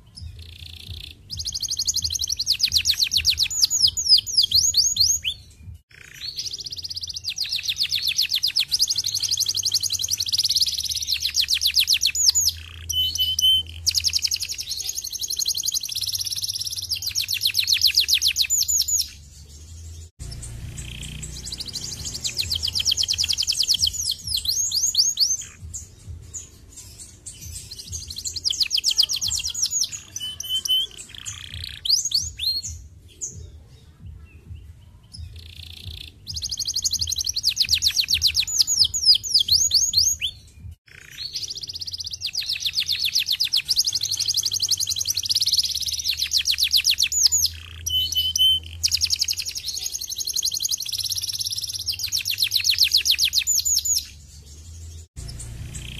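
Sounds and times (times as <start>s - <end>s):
canary singing high trills: 0.0s - 32.9s, 35.2s - 54.6s, 55.2s - 55.9s.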